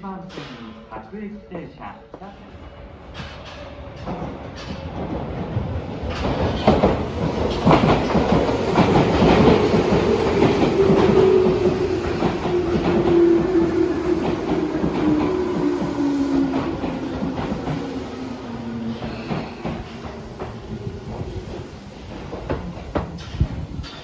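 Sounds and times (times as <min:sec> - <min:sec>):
train wheels clattering over rail joints: 0:03.1 - 0:24.0.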